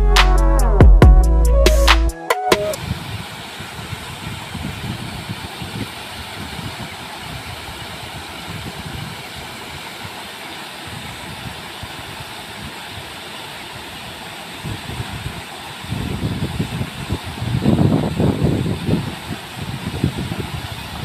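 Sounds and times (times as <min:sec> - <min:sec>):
waterfall rushing into pool: 0:02.6 - 0:21.0.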